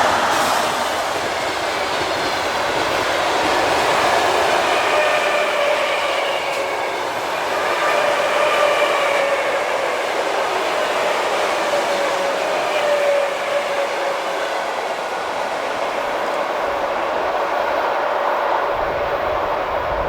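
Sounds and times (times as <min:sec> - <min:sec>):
train wheels roaring on rails: 0:00.0 - 0:20.0.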